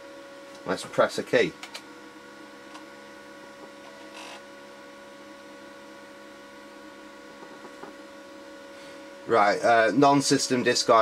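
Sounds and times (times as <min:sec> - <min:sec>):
electrical hum: 0:00.0 - 0:11.0
floppy drive whirring and seeking: 0:00.0 - 0:11.0.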